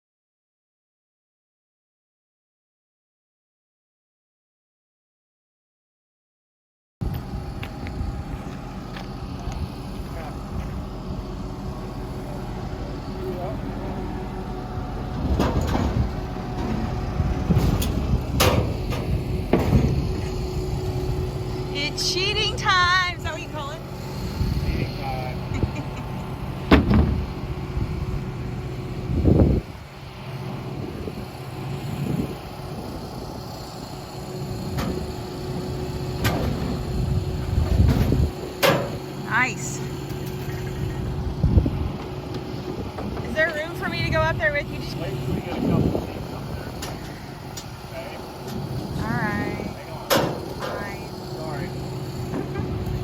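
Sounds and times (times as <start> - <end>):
engine idling: 7.0 - 53.0
steady motor hum: 7.0 - 53.0.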